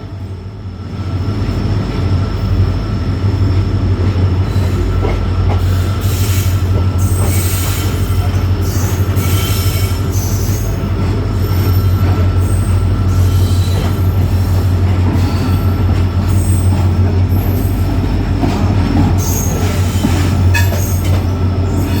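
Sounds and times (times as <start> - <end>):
train heavy rumble: 0.0 - 22.0.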